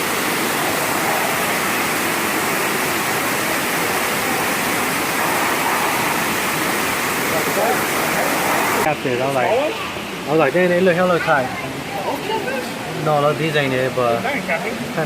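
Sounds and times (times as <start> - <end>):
rush of falling water: 0.0 - 15.0.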